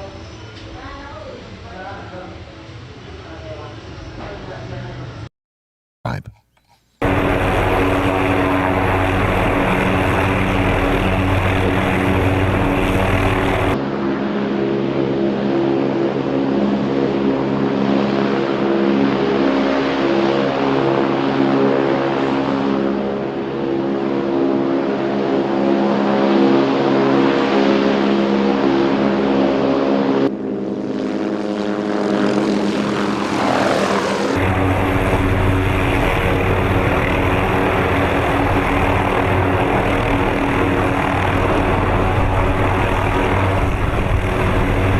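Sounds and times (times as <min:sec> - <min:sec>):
helicopter turbine and rotors: 0:07.0 - 0:44.9.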